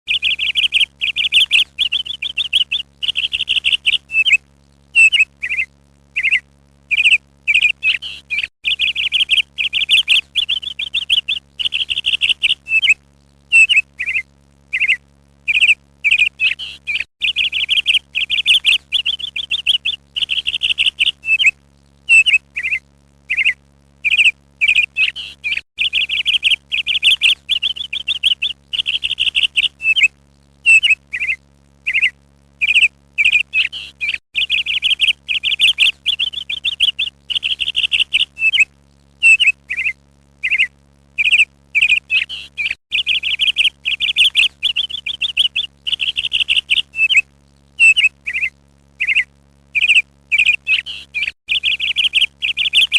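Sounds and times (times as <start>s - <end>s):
songbird trilling and chirping: 0.1s - 4.4s, 5.0s - 21.5s, 22.1s - 30.1s, 30.7s - 47.2s, 47.8s - 52.9s.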